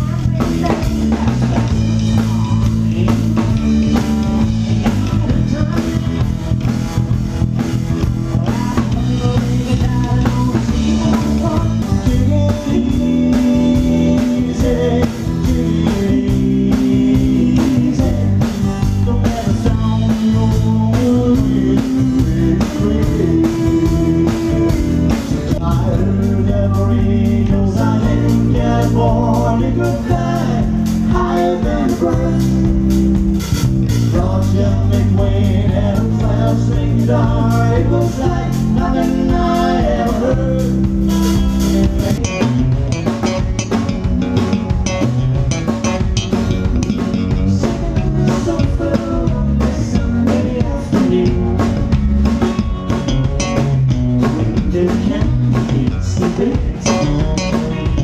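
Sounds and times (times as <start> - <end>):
person singing lead vocal: 0.0 - 6.8, 8.0 - 33.2, 33.9 - 42.5, 47.0 - 52.4, 54.2 - 58.0
live country band playing: 0.0 - 58.0.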